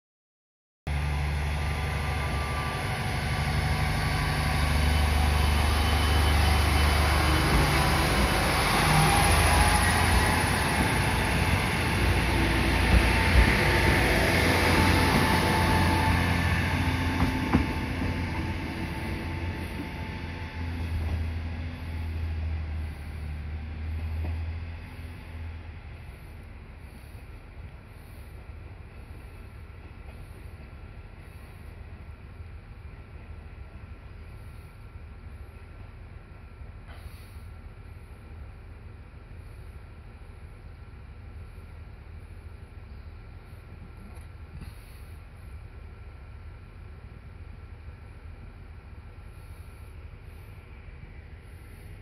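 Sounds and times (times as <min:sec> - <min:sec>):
diesel railcar engine: 0:00.9 - 0:52.0
low diesel hum: 0:00.9 - 0:52.0.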